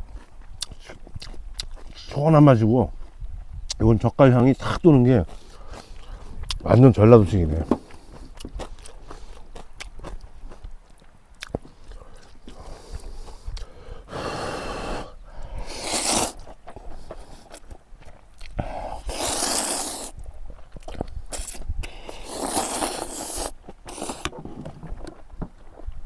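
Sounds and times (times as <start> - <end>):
crunchy chewing: 0.0 - 3.8, 4.6 - 6.6, 7.3 - 25.2.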